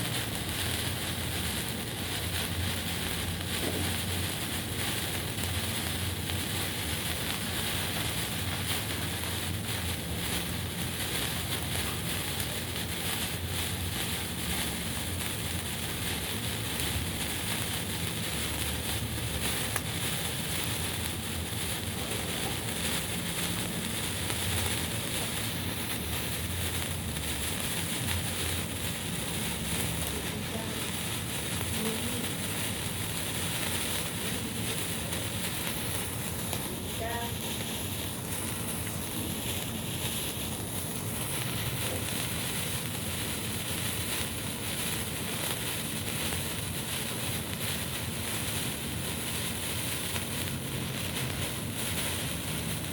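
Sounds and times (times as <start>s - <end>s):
signal flare hissing: 0.0s - 52.9s.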